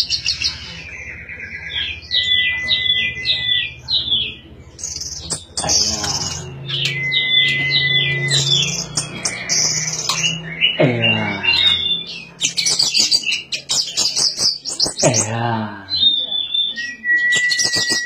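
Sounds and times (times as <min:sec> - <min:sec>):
thrush singing: 0:00.0 - 0:18.0.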